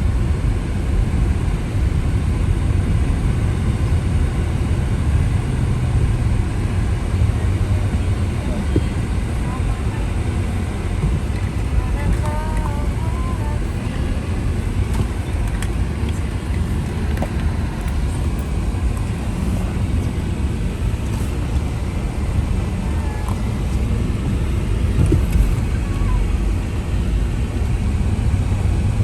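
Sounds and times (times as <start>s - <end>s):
car cabin road rumble: 0.0s - 29.0s.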